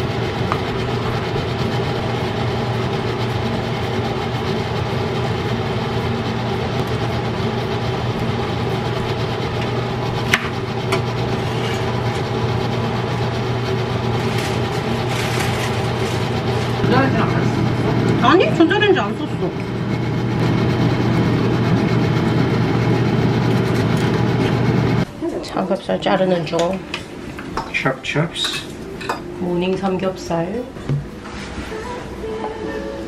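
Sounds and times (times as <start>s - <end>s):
extractor fan humming: 0.0s - 33.0s.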